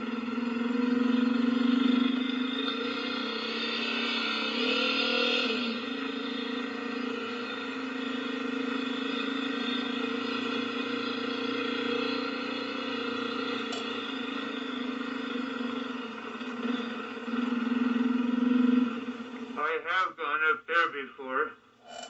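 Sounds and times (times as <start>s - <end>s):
dirt bike engine running: 0.0s - 19.6s.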